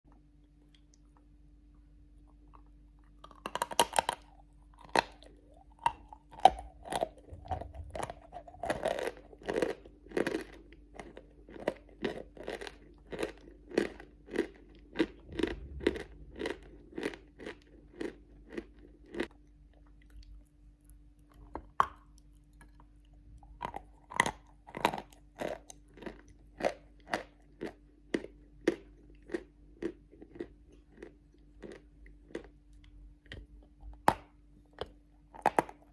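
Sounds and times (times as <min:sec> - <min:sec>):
faint steady hum: 0:00.1 - 0:35.9
person chewing chalk crunches: 0:02.2 - 0:35.9.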